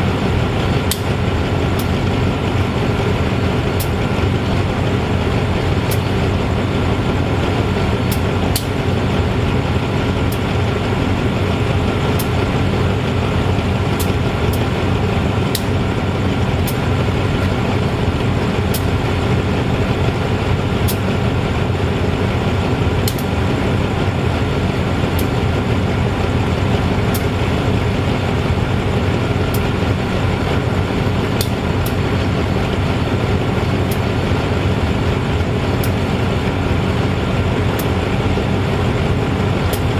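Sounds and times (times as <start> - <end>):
diesel locomotive idling: 0.0 - 39.9.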